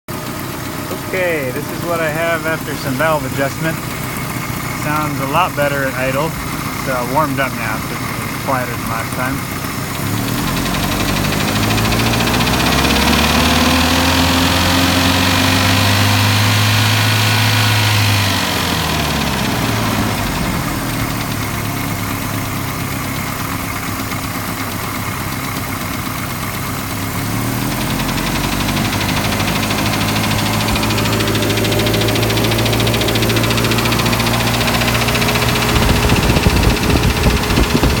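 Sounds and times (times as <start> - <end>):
car engine revving and idling: 0.1 - 38.0
engine knocking: 0.1 - 38.0.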